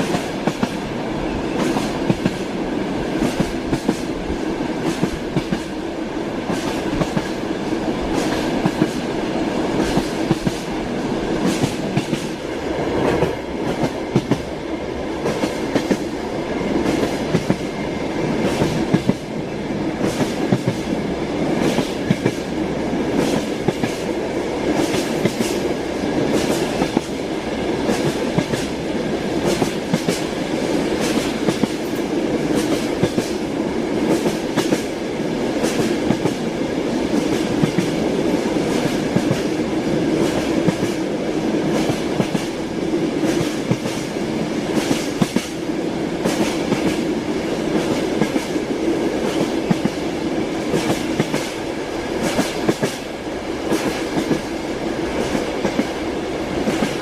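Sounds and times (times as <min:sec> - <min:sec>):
train wheels clacking over rails: 0:00.0 - 0:57.0.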